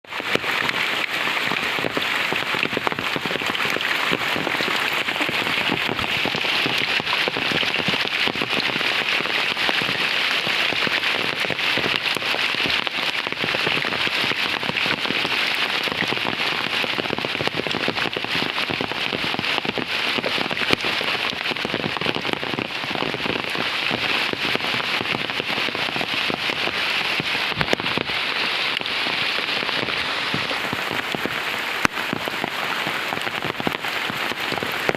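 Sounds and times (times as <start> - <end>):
heavy rain pattering: 0.0 - 34.9.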